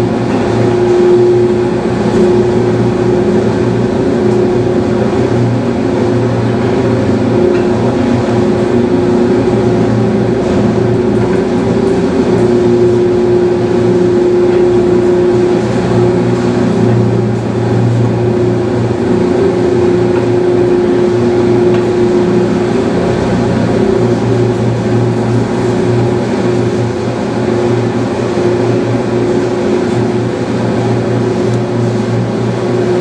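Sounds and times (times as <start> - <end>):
engine compressor mechanical hum: 0.0 - 33.0.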